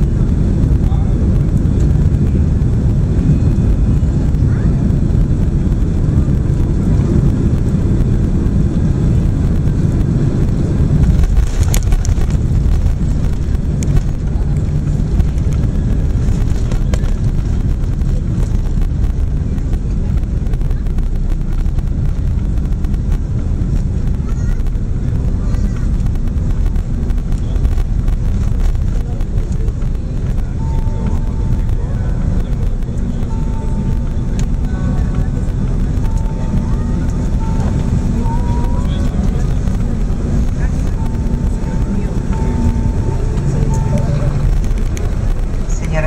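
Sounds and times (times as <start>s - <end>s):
aircraft engines and airflow rumble: 0.0s - 46.0s.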